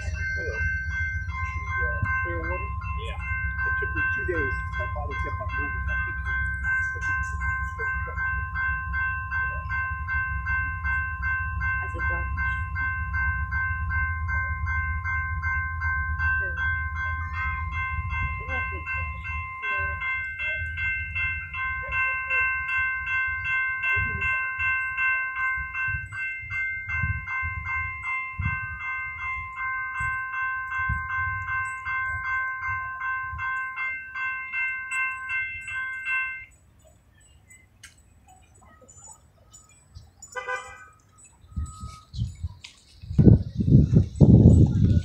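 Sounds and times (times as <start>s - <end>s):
railroad crossing bell ringing: 0.0s - 45.0s.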